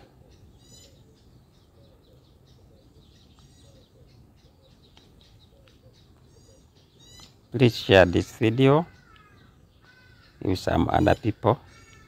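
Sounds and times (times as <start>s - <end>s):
bird trill: 0.0s - 12.0s
faint birds chirping: 0.0s - 12.0s.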